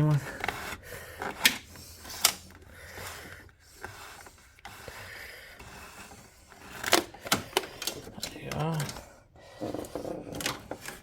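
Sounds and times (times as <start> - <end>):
cable rubbing scrape: 0.0 - 11.0.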